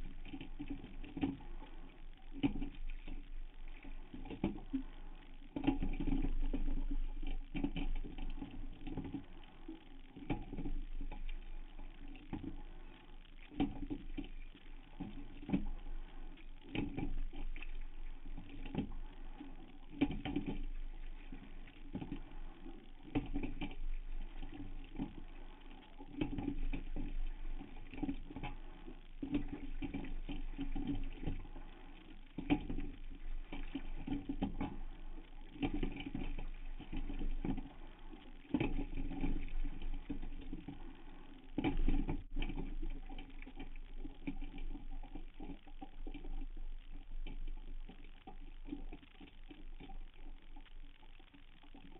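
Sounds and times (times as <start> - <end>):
oars knocking and splashing: 0.1 - 50.6.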